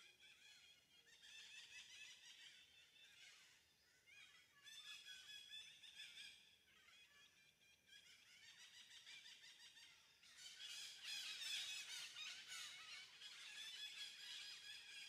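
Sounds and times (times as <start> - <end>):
birds chirping and twittering: 0.1 - 15.0.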